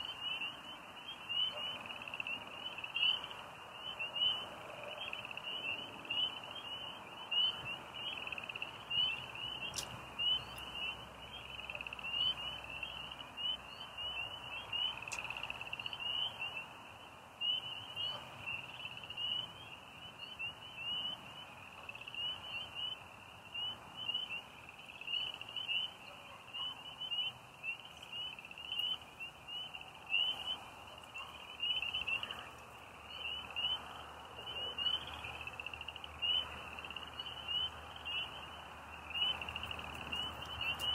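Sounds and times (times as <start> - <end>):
frogs and crickets chirping: 0.0 - 40.9.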